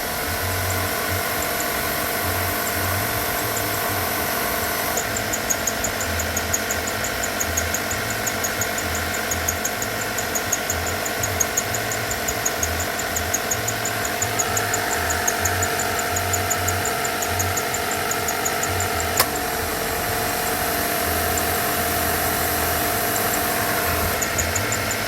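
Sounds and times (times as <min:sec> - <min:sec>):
car engine drone: 0:00.0 - 0:25.0
rapid high-pitched ticks: 0:00.0 - 0:25.0.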